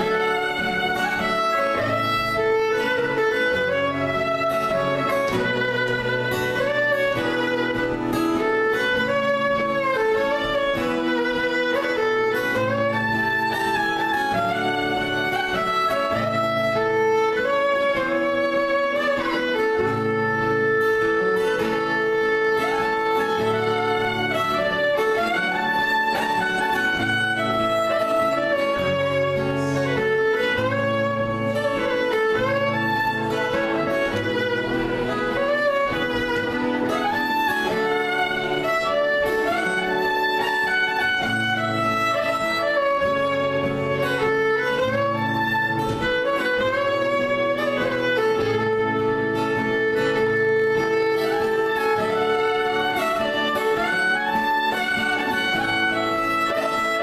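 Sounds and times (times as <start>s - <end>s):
fiddle melody: 0.0s - 57.0s.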